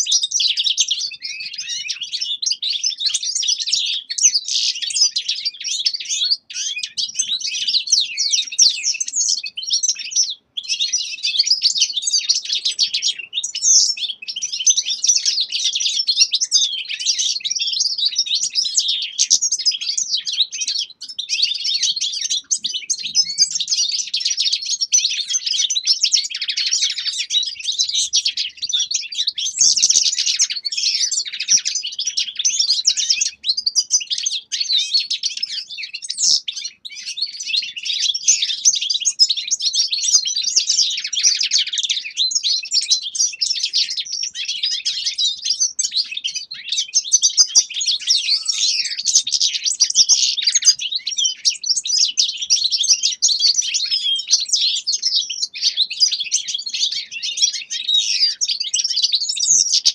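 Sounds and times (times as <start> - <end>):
finches twittering: 3.0 - 39.6, 40.2 - 59.9.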